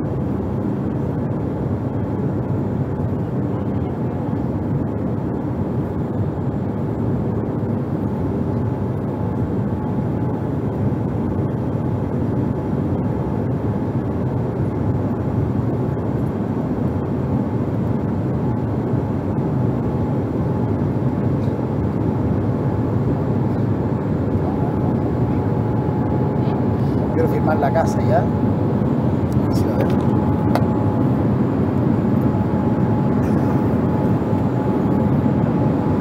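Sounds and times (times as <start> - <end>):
engine and airflow rumble: 0.0 - 36.0
faint steady whine: 0.0 - 36.0.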